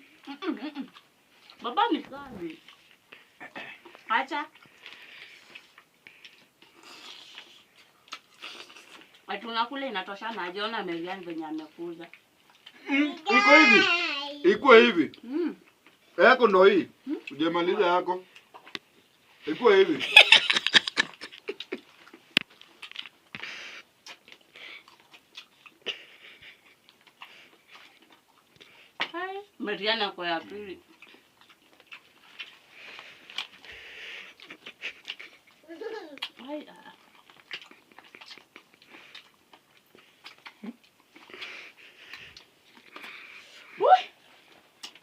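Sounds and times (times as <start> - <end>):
people chewing and crunching: 0.0 - 14.0, 14.8 - 16.2, 17.0 - 45.0.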